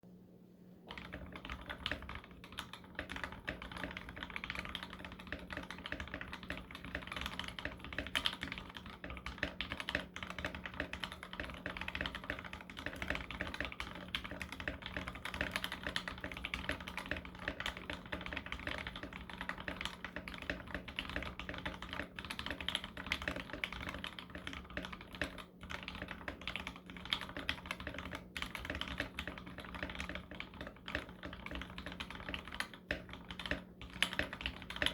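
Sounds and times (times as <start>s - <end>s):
rapid mechanical keyboard typing: 0.9s - 34.9s.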